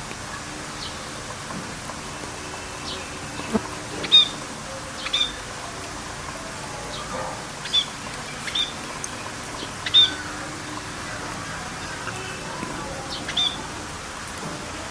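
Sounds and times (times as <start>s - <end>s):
rain hissing: 0.0s - 14.9s.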